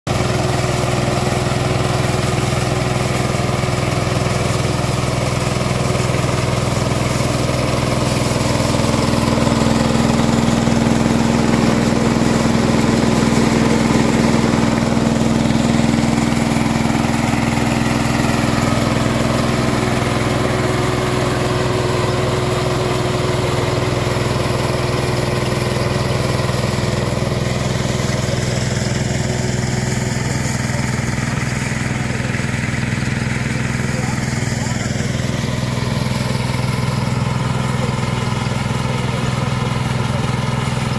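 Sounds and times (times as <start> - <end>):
combine harvester engine running: 0.1 - 40.9.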